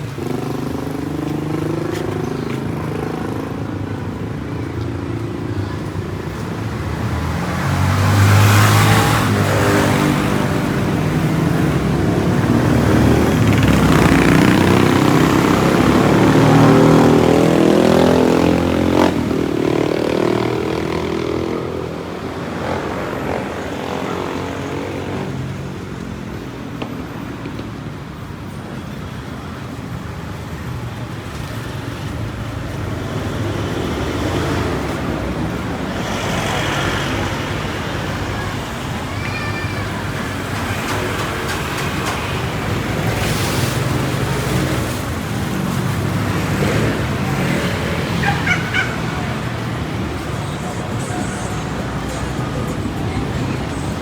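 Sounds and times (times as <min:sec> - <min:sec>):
vehicle engines passing: 0:00.0 - 0:54.0.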